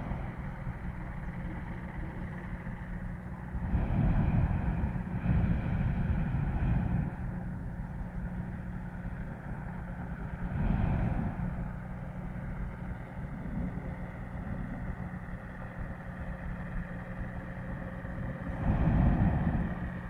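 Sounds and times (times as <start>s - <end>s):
airship engines droning: 0.0s - 20.0s.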